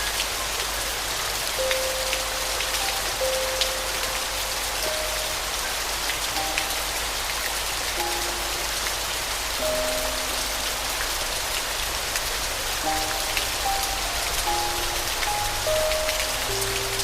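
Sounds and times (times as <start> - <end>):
individual raindrops: 0.0 - 17.0
steady rain falling: 0.0 - 17.0
soft sparse piano melody: 1.3 - 17.0.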